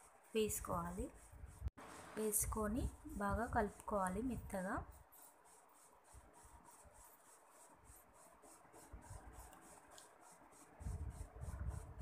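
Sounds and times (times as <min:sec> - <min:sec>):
hand mixing flour in steel bowl: 0:00.0 - 0:12.0.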